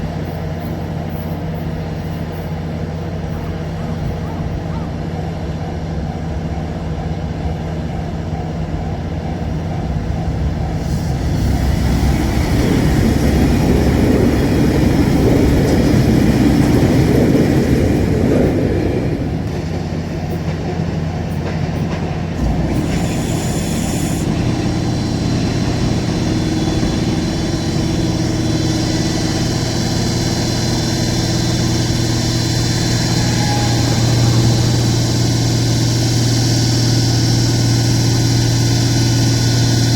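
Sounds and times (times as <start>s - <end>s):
low rumble of train: 0.0s - 39.9s.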